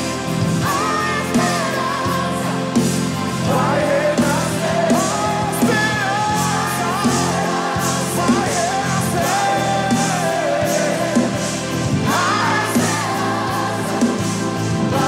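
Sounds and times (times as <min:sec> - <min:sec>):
keyboard: 0:00.0 - 0:15.0
people singing: 0:00.0 - 0:15.0
steady drum beat: 0:00.0 - 0:15.0.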